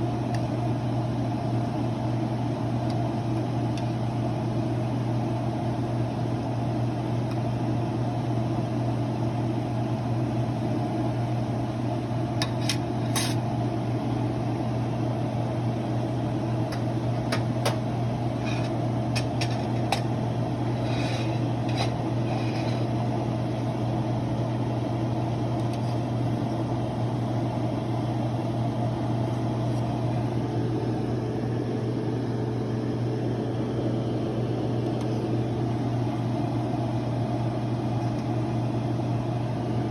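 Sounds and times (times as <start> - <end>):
appliance fan humming: 0.0 - 39.9.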